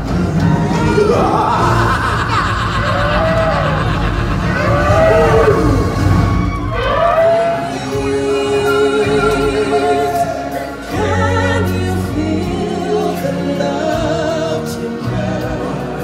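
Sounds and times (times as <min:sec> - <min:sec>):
choir-style vocalists singing: 0:00.0 - 0:16.0.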